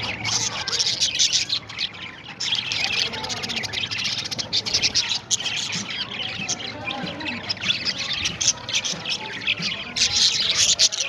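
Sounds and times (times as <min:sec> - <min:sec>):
parrots chirping and chattering: 0:00.0 - 0:11.0.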